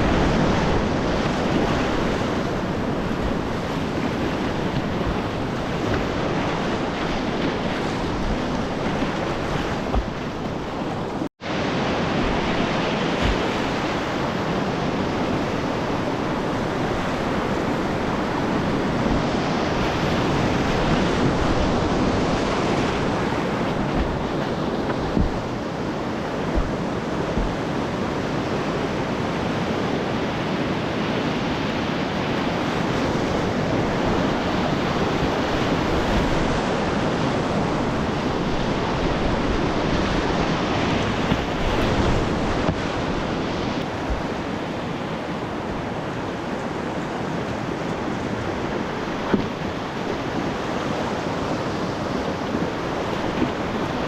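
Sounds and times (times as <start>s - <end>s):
river rapids rushing: 0.0s - 54.0s
wind buffeting microphone: 0.0s - 54.0s.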